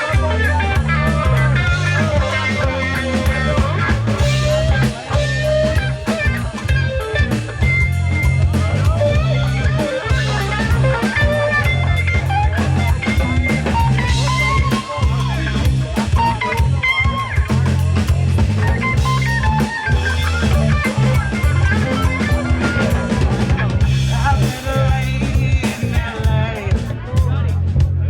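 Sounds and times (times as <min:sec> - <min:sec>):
electric guitar lines: 0:00.0 - 0:27.4
bass guitar: 0:00.0 - 0:28.0
drum kit: 0:00.0 - 0:28.0.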